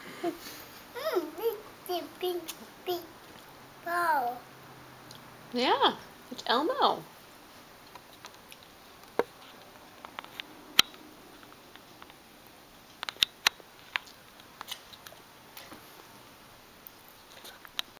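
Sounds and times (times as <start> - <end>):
faint room hum: 0.0 - 17.9.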